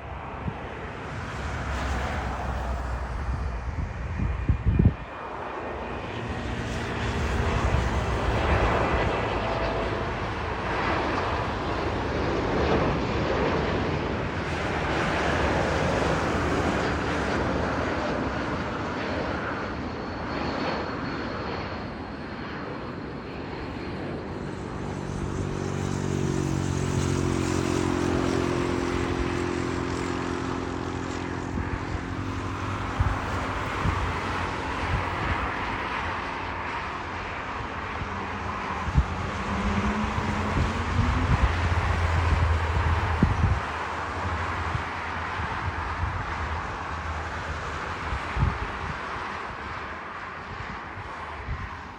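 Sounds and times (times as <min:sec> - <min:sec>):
jet airliner engines: 0:00.0 - 0:51.9.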